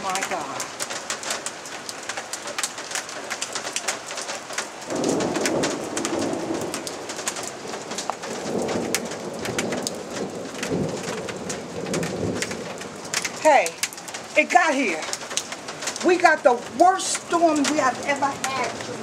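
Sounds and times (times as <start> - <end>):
hailstones pelting down: 0.0 - 19.0.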